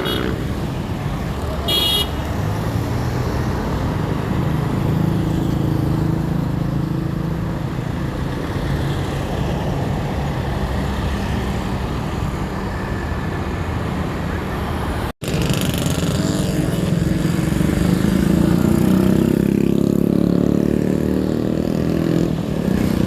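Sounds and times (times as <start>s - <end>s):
passing traffic: 0.0s - 23.0s.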